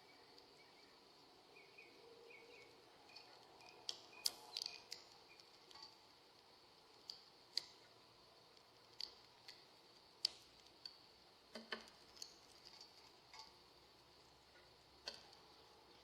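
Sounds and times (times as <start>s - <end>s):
small birds chipping: 0.0s - 16.0s.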